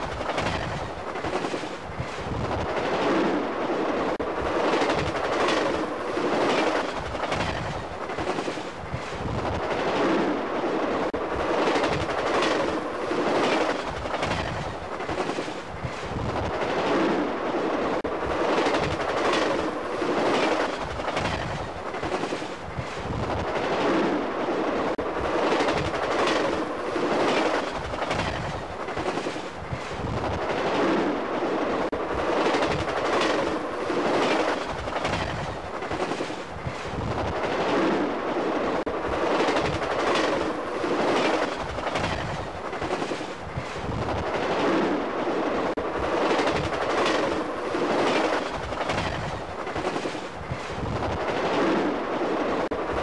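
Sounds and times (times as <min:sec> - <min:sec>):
train wheels clattering on track: 0:00.0 - 0:10.4, 0:11.1 - 0:17.2, 0:18.0 - 0:24.3, 0:24.9 - 0:31.2, 0:31.8 - 0:53.0
passing train rumble: 0:00.0 - 0:53.0.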